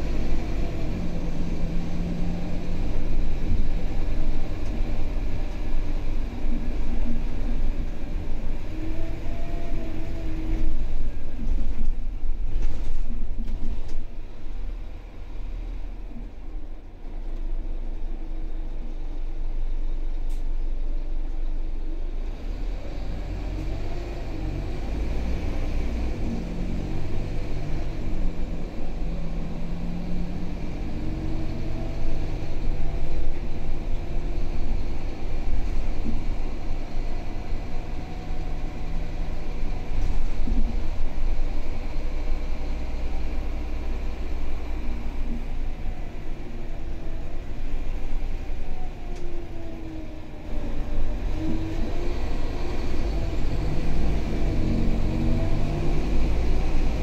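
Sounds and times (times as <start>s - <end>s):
bus engine hum: 0.0s - 57.0s
road noise: 0.0s - 57.0s.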